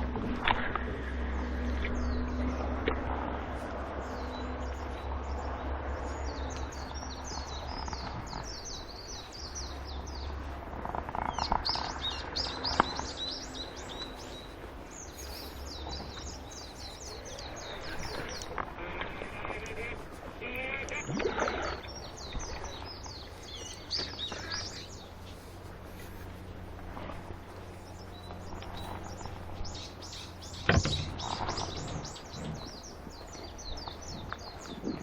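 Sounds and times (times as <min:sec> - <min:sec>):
low rumble: 0:00.0 - 0:35.0
small birds chirping: 0:00.0 - 0:35.0.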